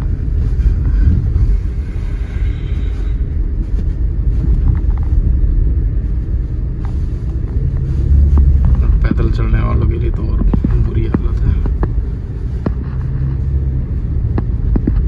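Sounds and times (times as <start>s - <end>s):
car engine rumble: 0.0s - 15.0s
tyre noise on snow: 0.0s - 15.0s.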